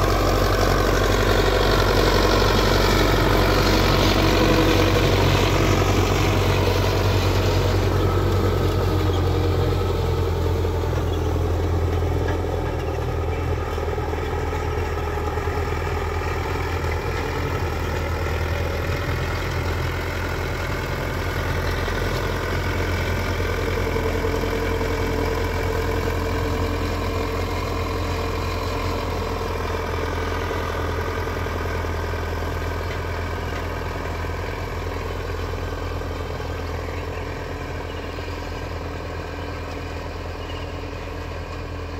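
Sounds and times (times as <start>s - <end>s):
harrow through dry soil: 0.0s - 41.9s
tractor diesel engine running: 0.0s - 41.9s.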